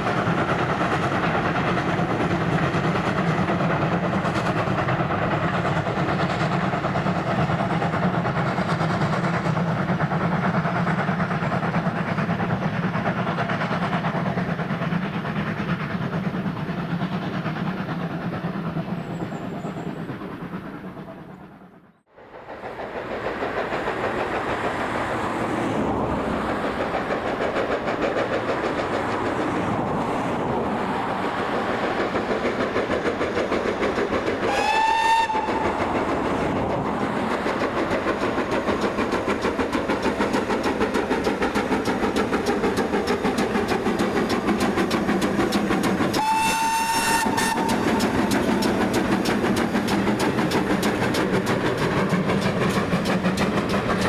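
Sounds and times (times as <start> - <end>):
steam train passing: 0.0 - 54.0.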